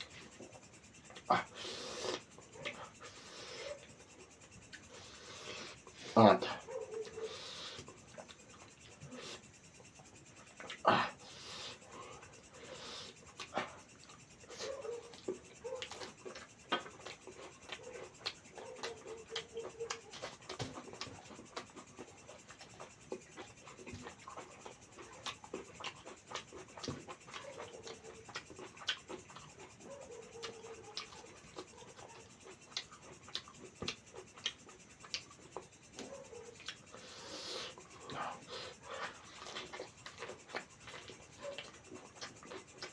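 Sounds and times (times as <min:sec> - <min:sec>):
wet chewing and mouth clicks: 0:00.0 - 0:42.9.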